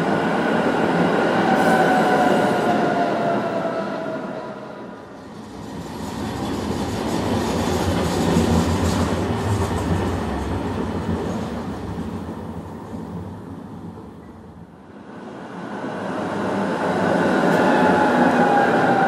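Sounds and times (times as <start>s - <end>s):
tram wheels rumbling on rails: 0.0s - 14.8s, 15.8s - 19.0s.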